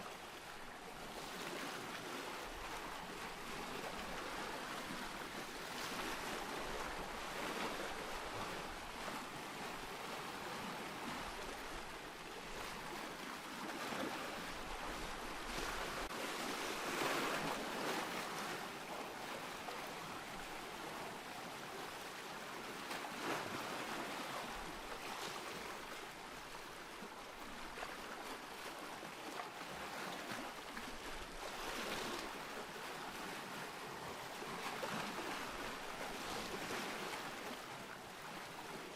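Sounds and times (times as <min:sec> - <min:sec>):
ocean surf waves: 0:00.0 - 0:38.9.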